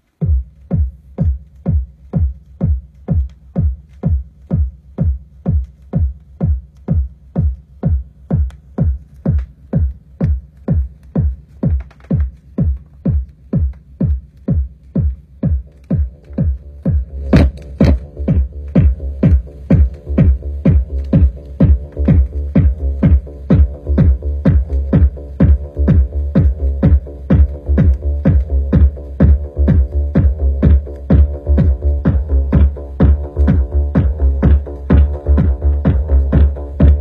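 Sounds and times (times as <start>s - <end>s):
deep house kick drum: 0.0s - 37.0s.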